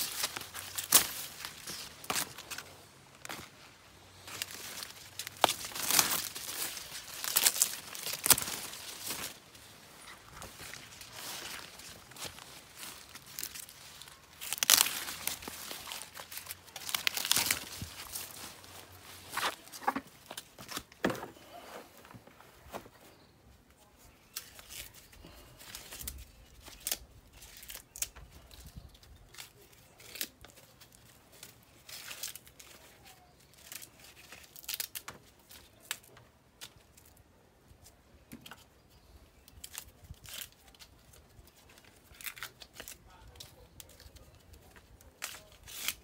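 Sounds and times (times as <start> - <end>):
corn husks ripping and rustling: 0.0 - 23.0, 23.9 - 46.0.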